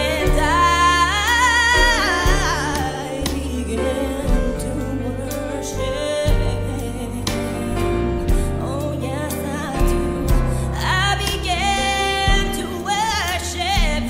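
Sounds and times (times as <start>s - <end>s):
instrumental accompaniment with bass: 0.0s - 14.0s
woman singing with vibrato: 0.0s - 14.0s.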